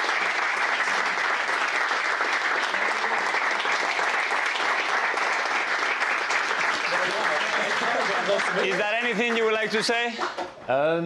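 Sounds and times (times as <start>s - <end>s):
people clapping: 0.0s - 10.6s.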